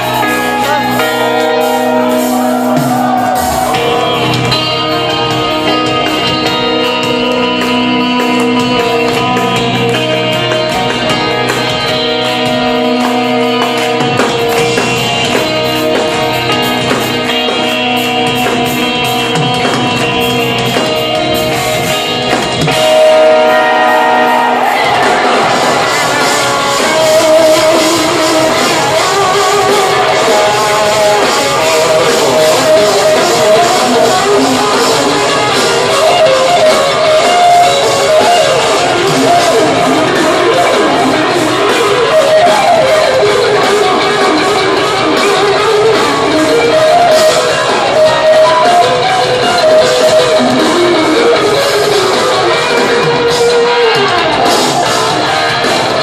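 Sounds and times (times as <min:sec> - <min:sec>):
drums: 0:00.0 - 0:56.0
electric guitars: 0:00.0 - 0:56.0.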